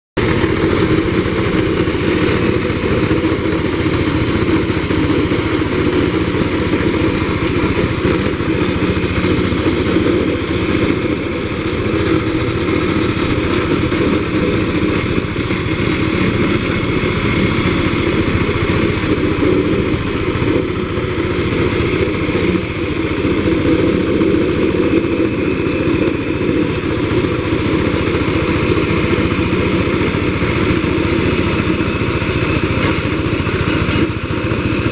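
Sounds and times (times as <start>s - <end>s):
road roller engine running: 0.2s - 34.9s.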